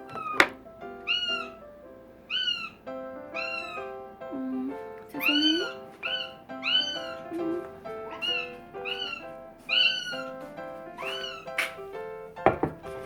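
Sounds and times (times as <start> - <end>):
cat meowing: 0.0 - 1.6, 2.3 - 10.4, 11.0 - 11.8
background music sustained notes: 0.0 - 13.0.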